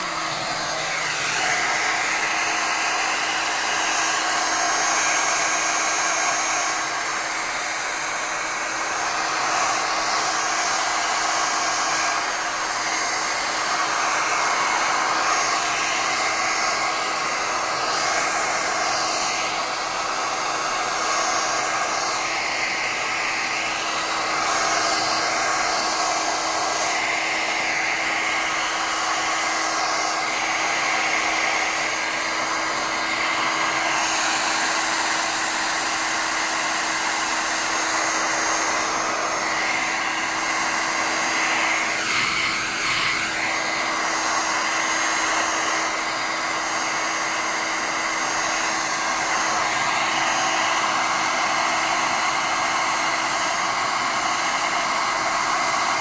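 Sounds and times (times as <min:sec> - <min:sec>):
electric blower rushing air: 0:00.0 - 0:56.0.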